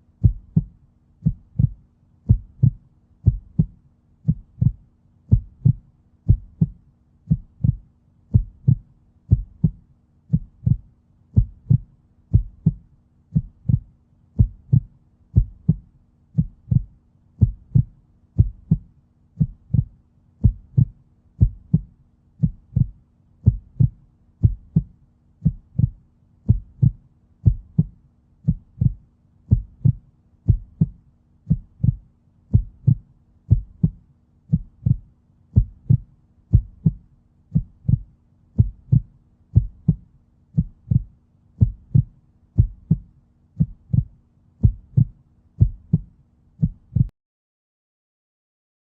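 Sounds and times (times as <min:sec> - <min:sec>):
faint steady hum: 0:00.0 - 0:47.1
heartbeat thumps: 0:00.2 - 0:47.1.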